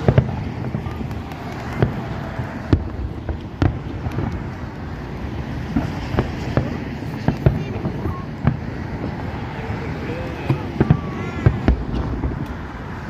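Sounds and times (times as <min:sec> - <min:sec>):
distant fireworks bangs: 0:00.0 - 0:13.0
wind noise on microphone: 0:00.0 - 0:13.0.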